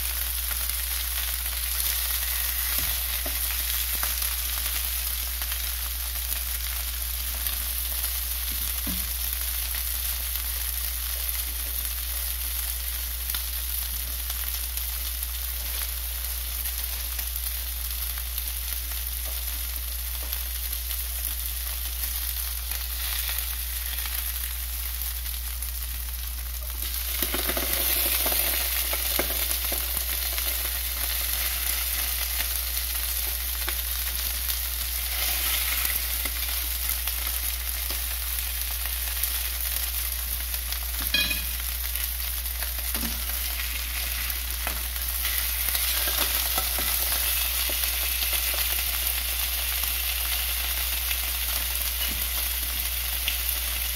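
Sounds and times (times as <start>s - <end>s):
fish sizzling in a frying pan: 0.0s - 53.9s.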